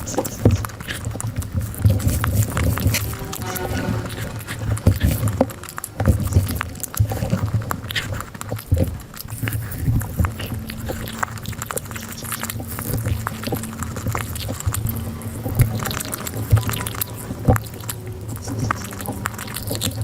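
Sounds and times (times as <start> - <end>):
chewing and mouth clicks: 0.0 - 2.9, 4.5 - 20.0.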